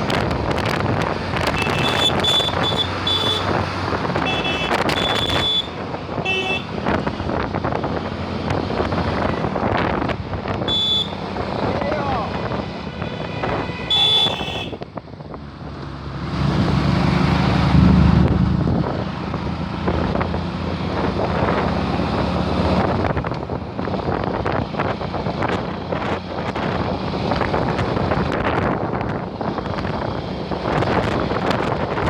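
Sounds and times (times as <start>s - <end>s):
road traffic: 0.0s - 32.0s
vehicle engine rumble: 0.0s - 32.0s
wind buffeting microphone: 0.0s - 32.0s.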